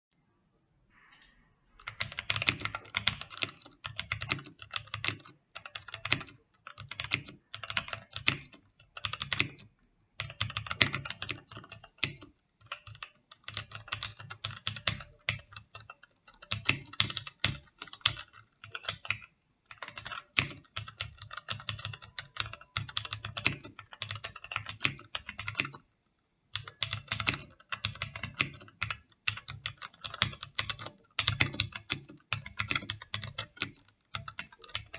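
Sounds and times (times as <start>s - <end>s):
typing on mechanical keyboard: 1.8s - 25.9s, 26.5s - 34.9s.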